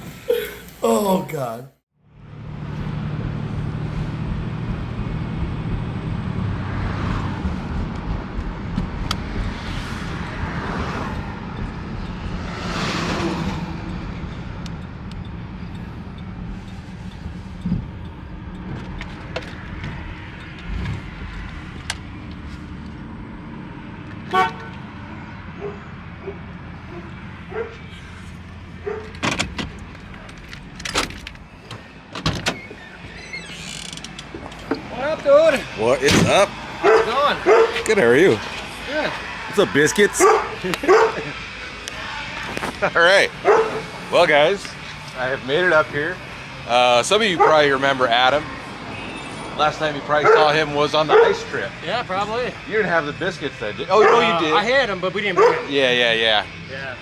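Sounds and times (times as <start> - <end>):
rushes of passing traffic: 1.4 - 57.0.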